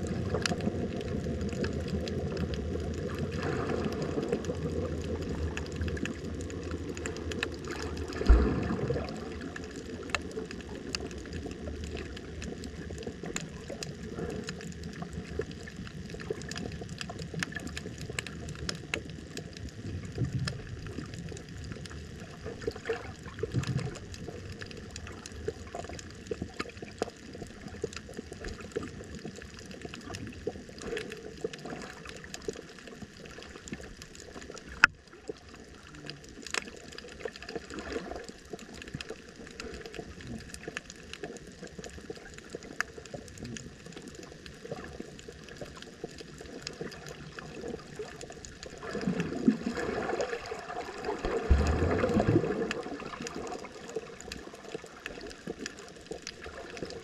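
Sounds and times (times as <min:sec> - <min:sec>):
small clicks and crackles: 0:00.0 - 0:57.0
water gurgling: 0:00.0 - 0:57.0.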